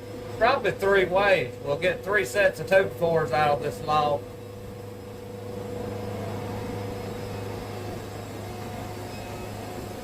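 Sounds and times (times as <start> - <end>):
band sawmill humming: 0.0 - 10.0.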